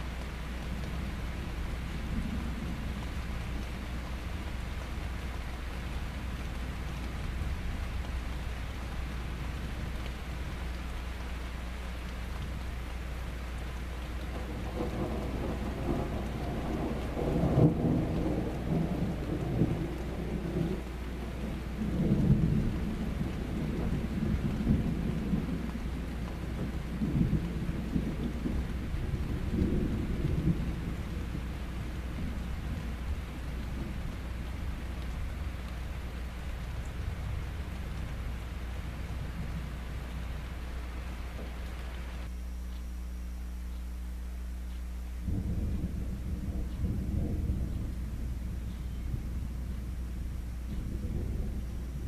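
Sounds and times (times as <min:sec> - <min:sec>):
thunder rumbling: 0:00.0 - 0:12.6, 0:13.7 - 0:42.3, 0:45.2 - 0:52.0
rain hiss: 0:00.0 - 0:52.0.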